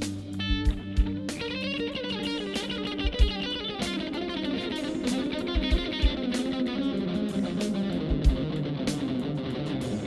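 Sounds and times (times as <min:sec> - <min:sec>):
electric guitar: 0:00.0 - 0:10.0.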